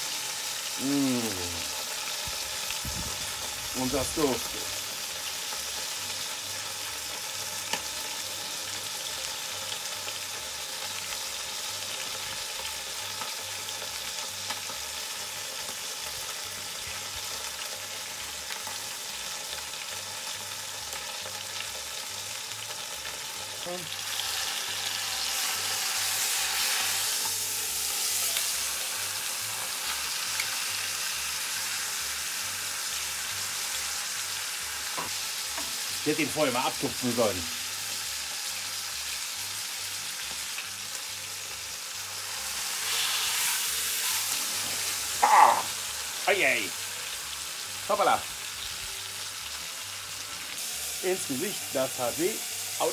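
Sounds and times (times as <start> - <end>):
meat sizzling in hot fat: 0.0 - 52.9.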